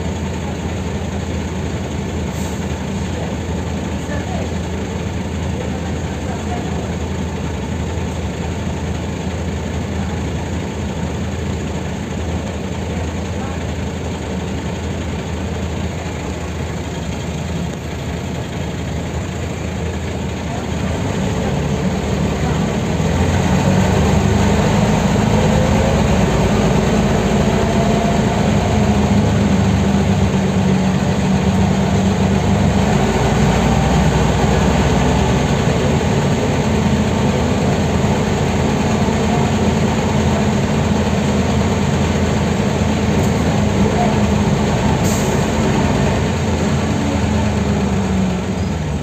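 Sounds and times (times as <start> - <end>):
bus cabin noise: 0.0 - 49.0
bus diesel engine droning: 0.0 - 49.0.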